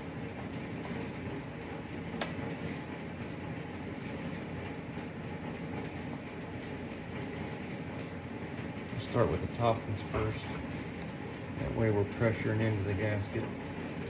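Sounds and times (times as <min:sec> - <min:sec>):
steady mechanical rumble: 0:00.0 - 0:14.0.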